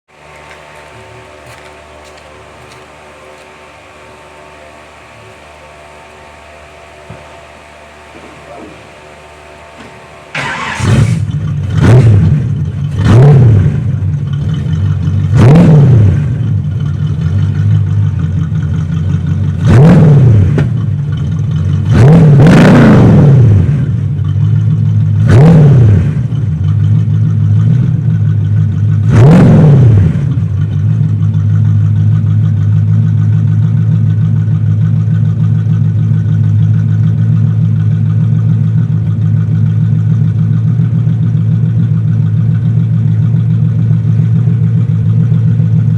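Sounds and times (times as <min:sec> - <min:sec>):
car engine revving and idling: 0:00.1 - 0:45.9.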